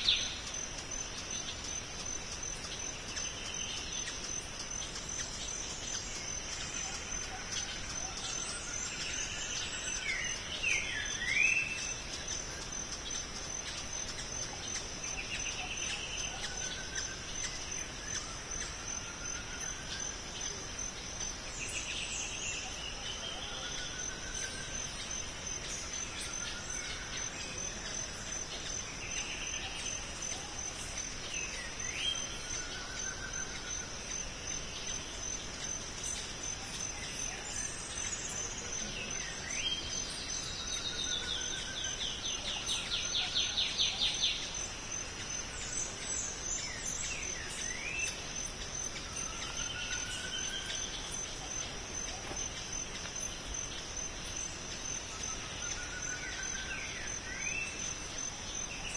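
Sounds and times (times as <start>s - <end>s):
pulsing insect drone: 0.0s - 58.9s.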